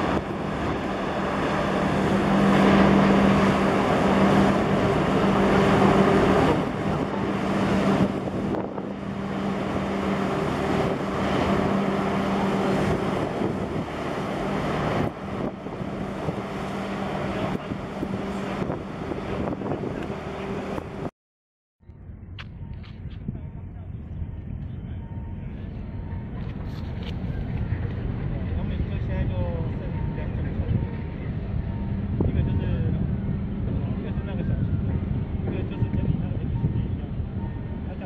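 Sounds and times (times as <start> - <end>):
ship engine hum: 0.0 - 21.1, 21.8 - 38.0
wind on microphone: 0.0 - 21.1, 21.9 - 37.9.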